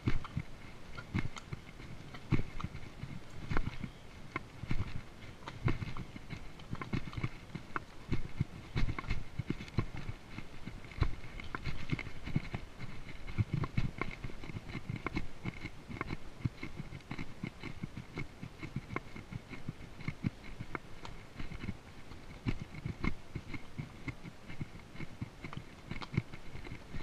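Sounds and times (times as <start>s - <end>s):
horse hooves on stone: 0.0s - 27.0s.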